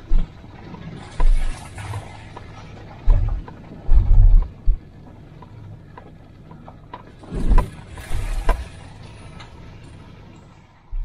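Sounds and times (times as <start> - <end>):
small clicks and rattles: 0.0 - 10.6.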